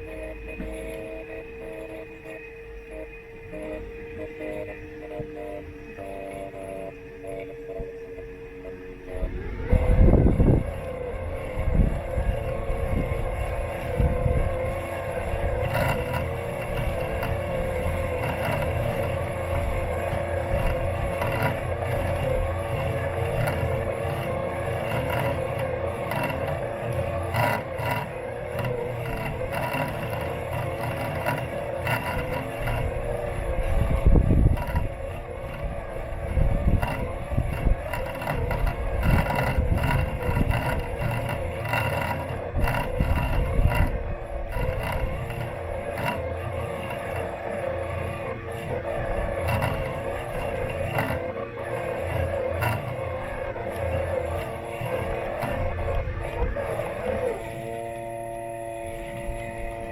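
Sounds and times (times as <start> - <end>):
electric motors whining: 0.0 - 59.9
low rumble of wheels on lawn: 0.0 - 59.9.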